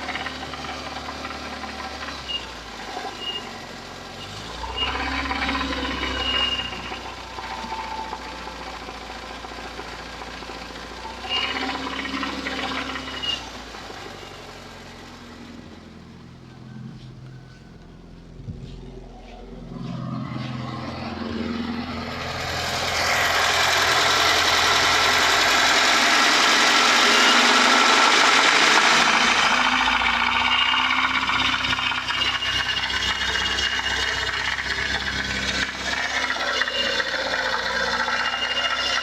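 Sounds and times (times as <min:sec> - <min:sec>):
knocking petrol engine revving: 0:00.0 - 0:39.0.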